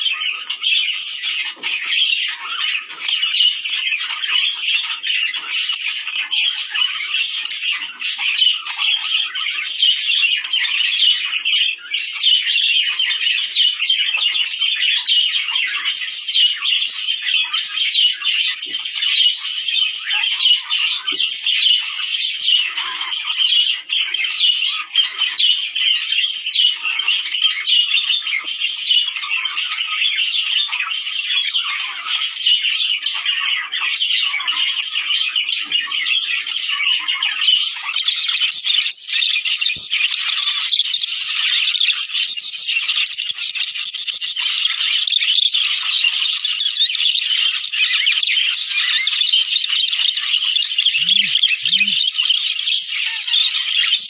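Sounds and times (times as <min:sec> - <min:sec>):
budgerigars chattering and warbling: 0:00.0 - 0:54.0.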